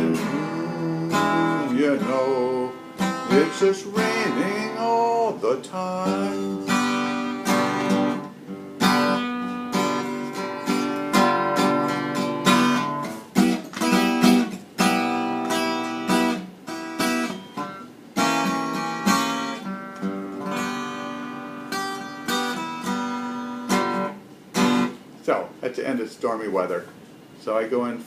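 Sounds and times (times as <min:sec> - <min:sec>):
acoustic guitar playing blues: 0:00.0 - 0:25.2.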